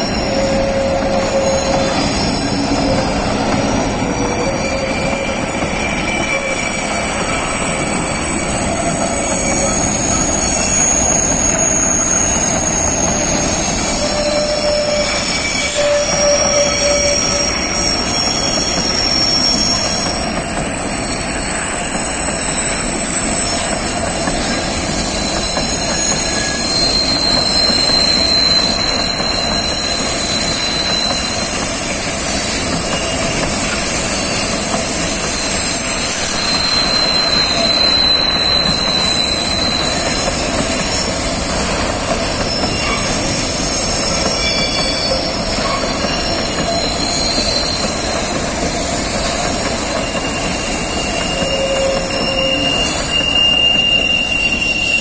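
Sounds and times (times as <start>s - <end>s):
high-pitched wheel squeals: 0.0s - 55.0s
wheels rumbling on rail: 0.0s - 55.0s.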